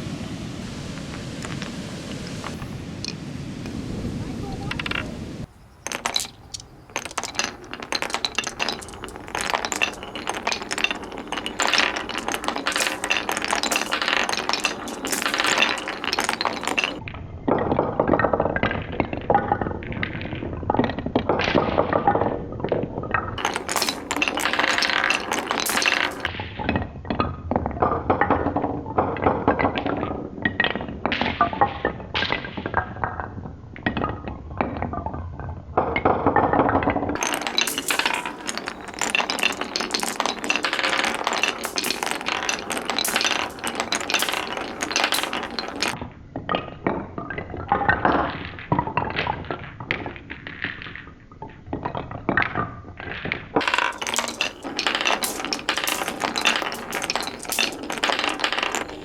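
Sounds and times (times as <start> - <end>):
marbles clattering on wooden blocks: 0.9 - 3.2, 4.6 - 35.1, 35.8 - 46.6, 47.2 - 59.0.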